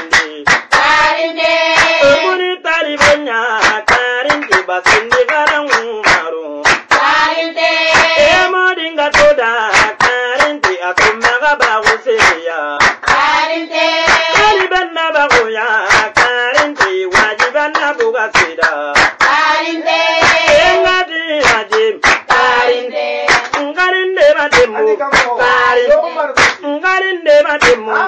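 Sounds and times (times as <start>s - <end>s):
person singing: 0.0s - 28.0s
rhythmic hand claps: 0.0s - 28.0s.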